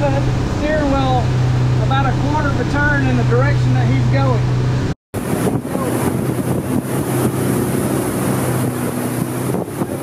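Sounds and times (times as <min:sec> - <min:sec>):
boat engine running: 0:00.0 - 0:10.0
wind buffeting microphone: 0:00.0 - 0:10.0.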